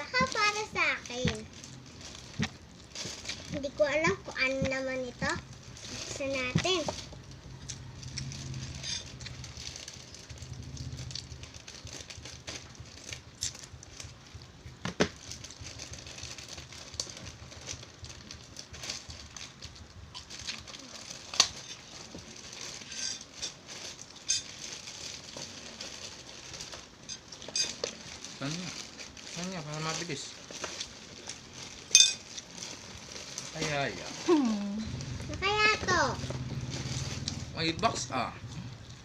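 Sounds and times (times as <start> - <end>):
wrapping paper crinkling: 0.0 - 39.0.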